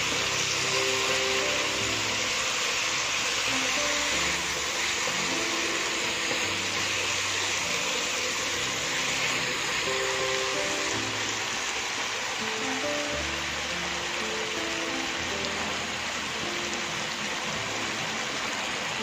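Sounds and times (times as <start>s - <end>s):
instrumental background music: 0.0s - 19.0s
stir-fry sizzling in a wok: 0.0s - 19.0s.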